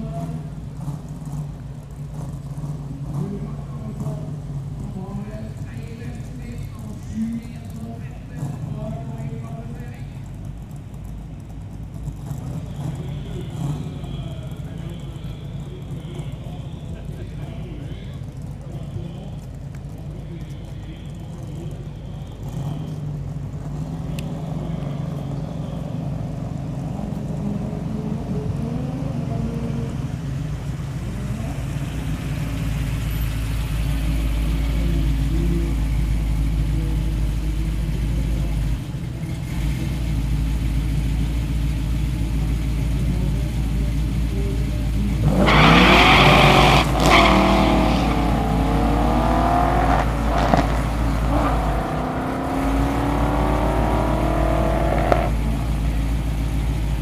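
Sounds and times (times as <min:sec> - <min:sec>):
drag car engines idling: 0:00.0 - 0:57.0
engines at full throttle: 0:00.0 - 0:57.0.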